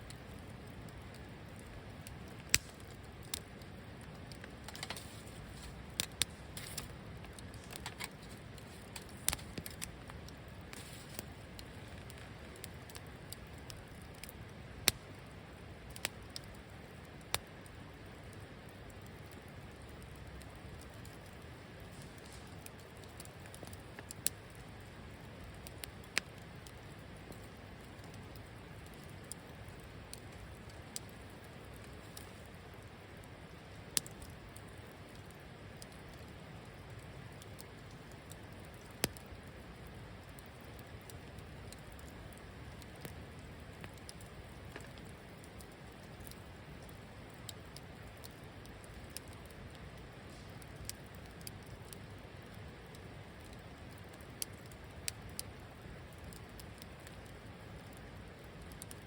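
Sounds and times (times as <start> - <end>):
campfire hissing: 0.0 - 59.0
fire crackling and popping: 0.0 - 59.0.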